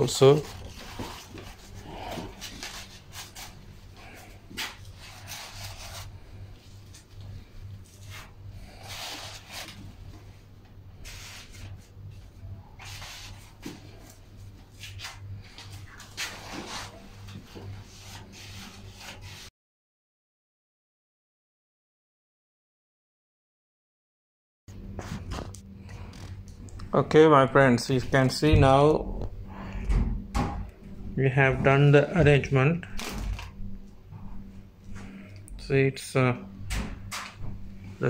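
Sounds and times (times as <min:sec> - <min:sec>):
steady low hum: 0:00.0 - 0:19.5, 0:24.7 - 0:38.0.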